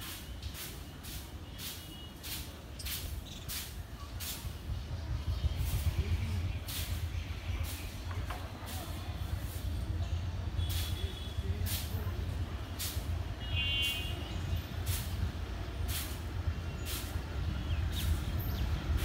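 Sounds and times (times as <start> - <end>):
distant diesel locomotive rumble: 0.0 - 19.0.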